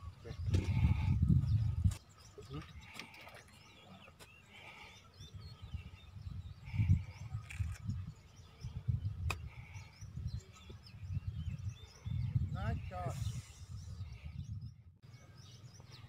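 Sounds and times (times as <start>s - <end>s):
wind on microphone: 0.0s - 3.0s, 5.1s - 15.0s
birds chirping: 0.0s - 16.0s.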